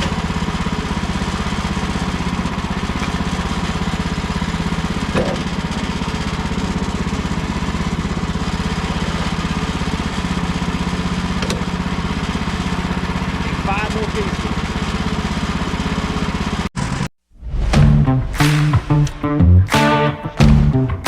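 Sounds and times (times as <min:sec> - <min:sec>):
sawmill gas engine running: 0:00.0 - 0:17.1.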